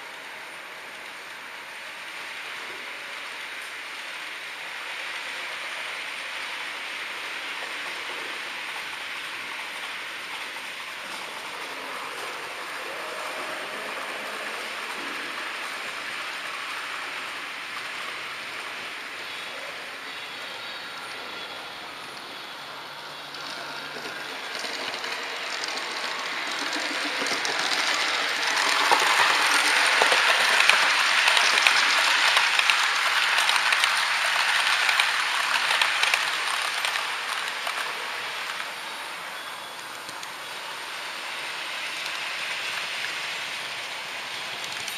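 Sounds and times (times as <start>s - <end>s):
model train wheels on rails: 0.0s - 44.9s.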